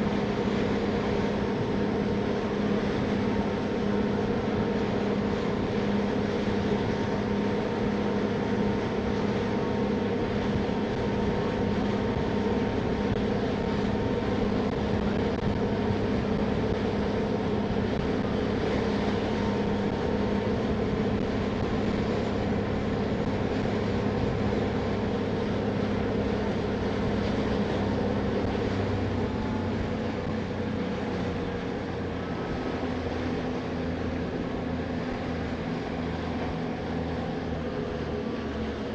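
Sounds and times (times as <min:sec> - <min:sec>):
broad rushing noise: 0:00.0 - 0:38.9
ship engines humming: 0:00.0 - 0:38.9.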